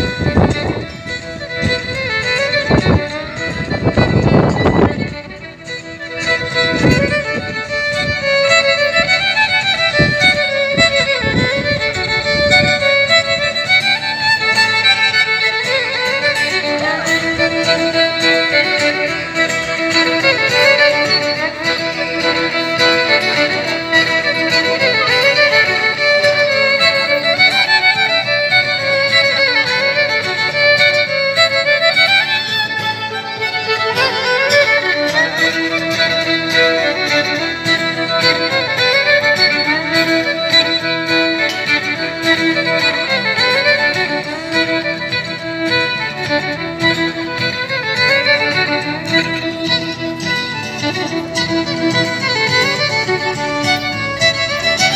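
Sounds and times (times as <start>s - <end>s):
violin melody: 0.0s - 54.9s.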